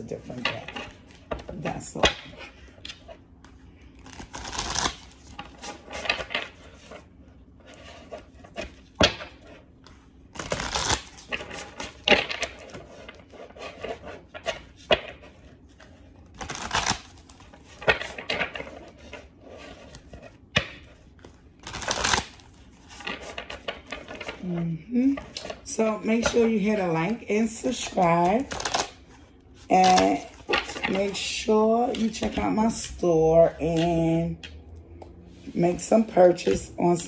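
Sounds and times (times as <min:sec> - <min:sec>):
cards being shuffled: 0:00.4 - 0:25.6, 0:26.2 - 0:32.9.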